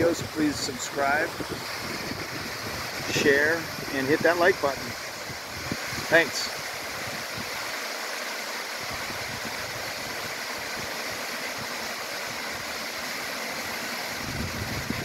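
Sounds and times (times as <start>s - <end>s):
rush of falling water: 0.0s - 15.0s.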